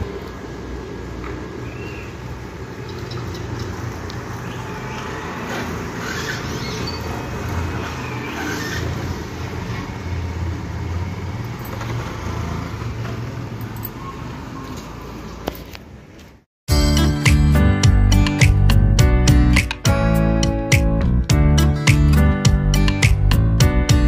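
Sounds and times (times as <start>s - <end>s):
street traffic noise: 0.0s - 24.0s.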